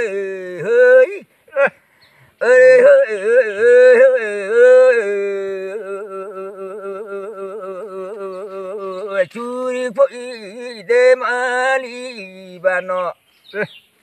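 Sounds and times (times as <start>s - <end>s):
man singing unaccompanied: 0.0s - 1.8s, 2.4s - 13.7s.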